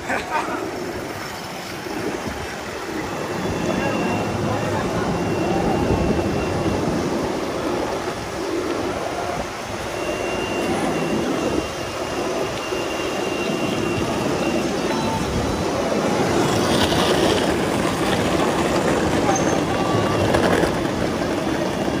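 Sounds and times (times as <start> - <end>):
skateboard wheels rolling on pavement: 0.0 - 22.0.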